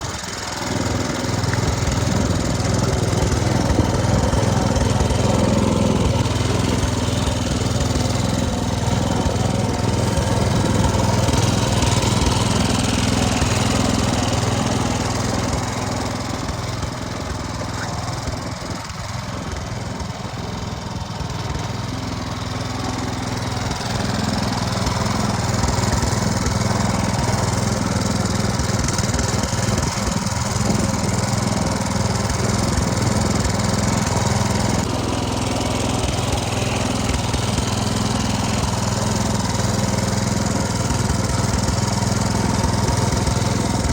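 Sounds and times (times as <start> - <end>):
lawn tractor engine running: 0.0 - 43.9.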